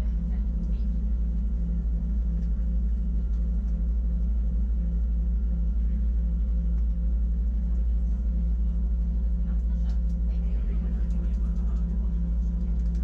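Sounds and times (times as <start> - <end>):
electric train rumbling on board: 0.0 - 13.0.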